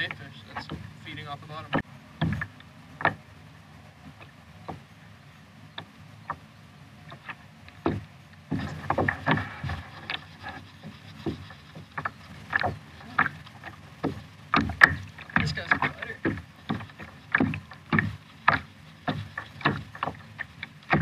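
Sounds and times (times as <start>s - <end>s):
low steady hiss: 0.0s - 21.0s
waves slapping kayak hull: 0.0s - 21.0s.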